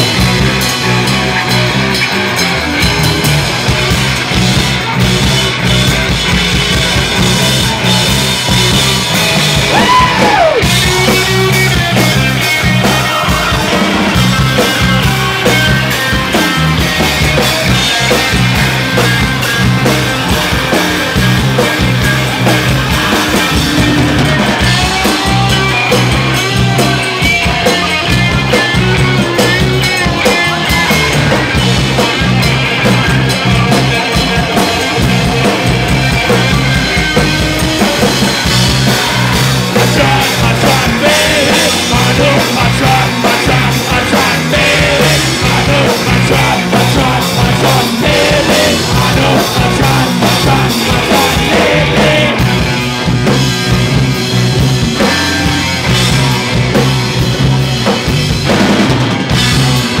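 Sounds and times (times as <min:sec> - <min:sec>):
drum kit pounding: 0:00.0 - 1:00.0
electric guitar: 0:00.0 - 1:00.0
punk rock band playing live: 0:00.0 - 1:00.0.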